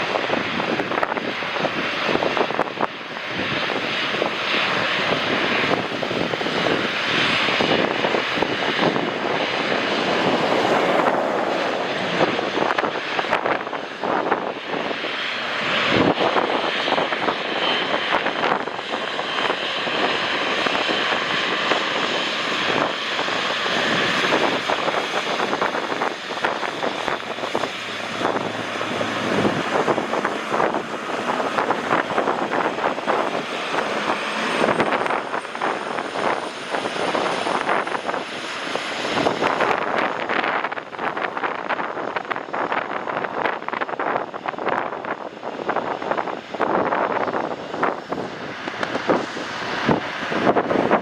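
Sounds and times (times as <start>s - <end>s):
jet engines roaring: 0.0s - 51.0s
wind buffeting microphone: 0.0s - 51.0s.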